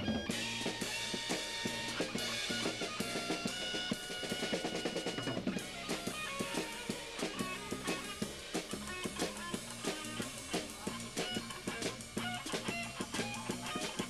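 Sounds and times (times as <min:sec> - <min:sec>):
drum kit with cymbals: 0:00.0 - 0:14.0
guitar: 0:00.0 - 0:14.0
live rock band playing: 0:00.0 - 0:14.0.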